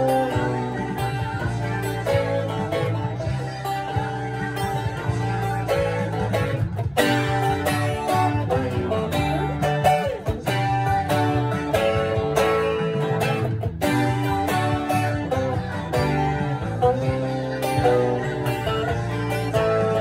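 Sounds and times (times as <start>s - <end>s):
twelve-string guitar strumming: 0.0s - 20.0s.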